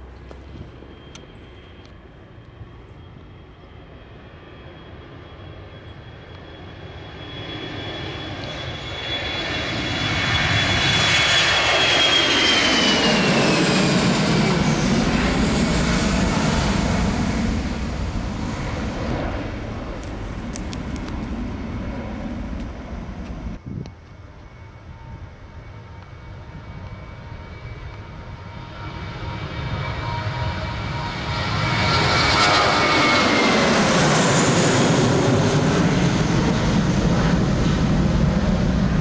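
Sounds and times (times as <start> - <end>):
deep jet rumble: 0.0 - 39.0
jet engine fan whine: 0.0 - 39.0.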